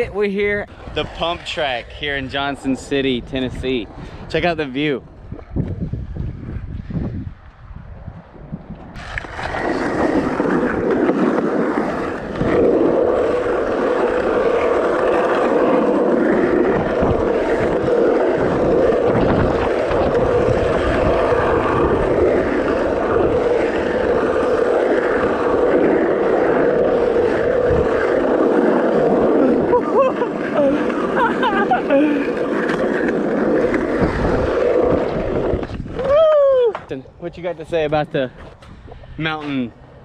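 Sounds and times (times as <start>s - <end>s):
skateboard wheels rumbling on pavement: 0.0s - 40.0s.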